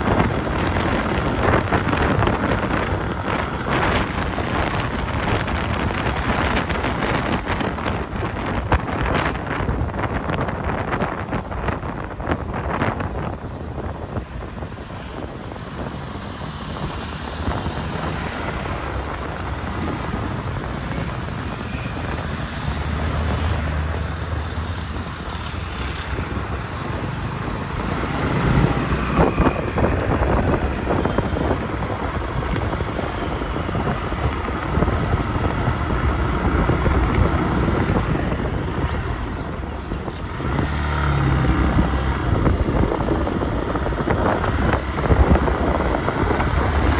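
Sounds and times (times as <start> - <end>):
road and wind noise: 0.0 - 46.9.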